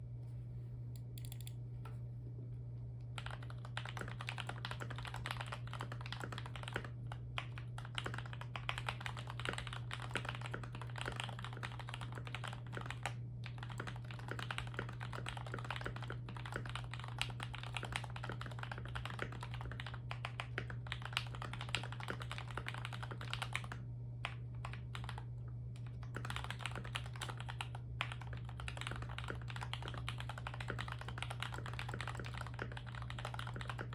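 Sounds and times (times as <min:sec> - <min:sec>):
steady low hum: 0:00.0 - 0:33.9
fast typing on mechanical keyboard: 0:03.2 - 0:33.9.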